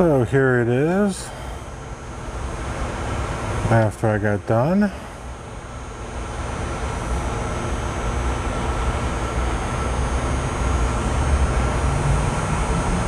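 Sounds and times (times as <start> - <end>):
faint high whine: 0.0 - 13.0
low machine rumble: 0.0 - 13.0.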